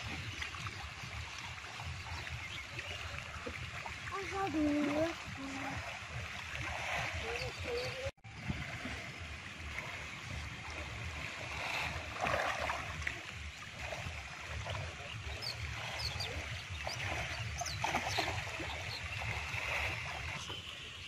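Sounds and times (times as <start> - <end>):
pond water: 0.0 - 21.0
wind rumbling on microphone: 0.0 - 21.0.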